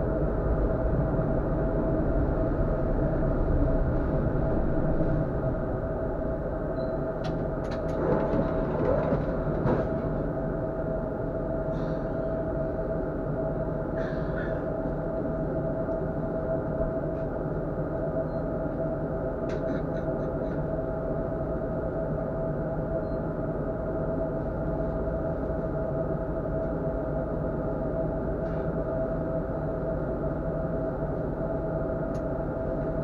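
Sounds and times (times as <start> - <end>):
tram running on track: 0.0 - 33.0.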